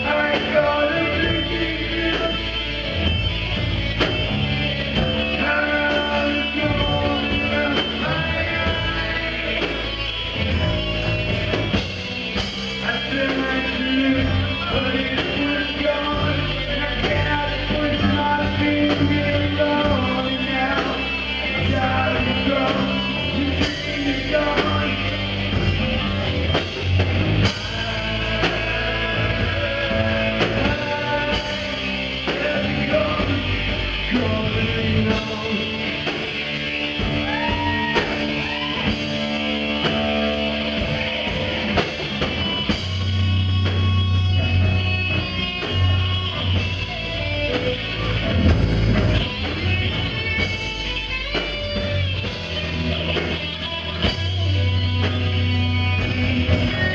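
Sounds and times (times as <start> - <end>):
distorted electric guitar: 0.0 - 56.9
drum kit beat: 0.0 - 56.9
electric bass: 0.0 - 56.9.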